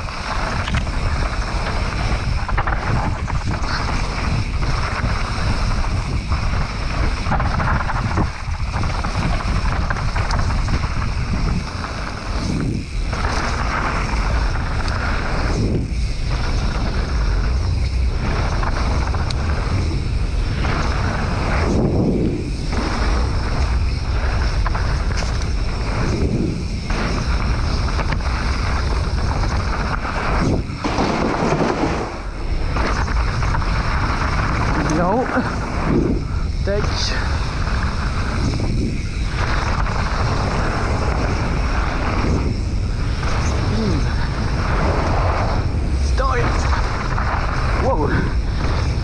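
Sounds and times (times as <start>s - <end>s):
bike tyres rolling over dirt: 0.0s - 49.0s
wind buffeting microphone: 0.0s - 49.0s.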